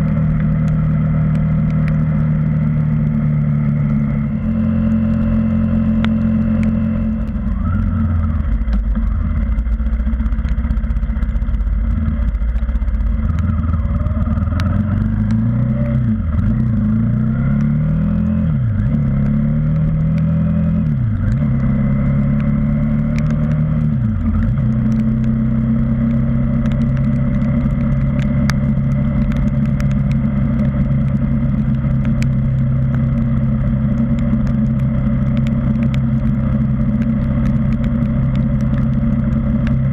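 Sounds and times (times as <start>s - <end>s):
motorcycle engine revving: 0.0s - 39.9s
rain ticking on camera: 0.0s - 39.9s.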